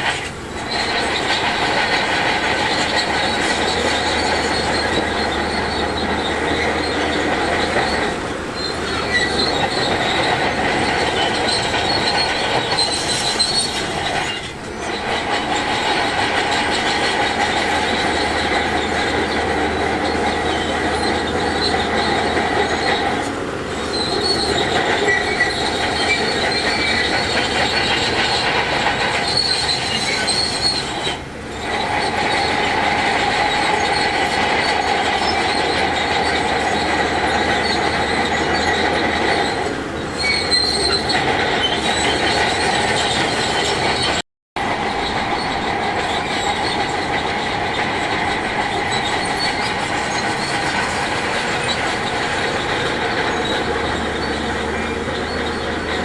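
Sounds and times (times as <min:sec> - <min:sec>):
heavy machinery engine: 0:00.0 - 0:56.0
metallic squealing of steel tracks: 0:00.0 - 0:56.0.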